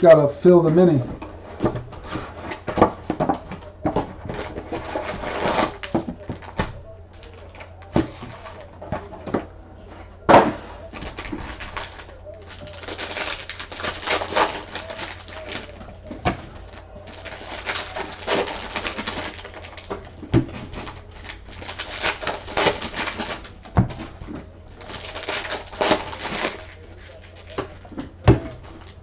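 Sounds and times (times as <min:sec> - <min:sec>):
plastic wrap and foil crinkling: 0:00.8 - 0:09.2, 0:10.8 - 0:29.0.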